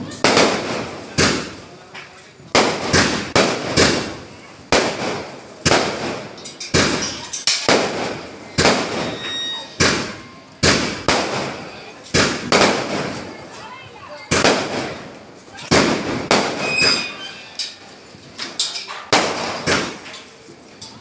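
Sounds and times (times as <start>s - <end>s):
fireworks bursting with sharp bangs: 0.0s - 20.3s.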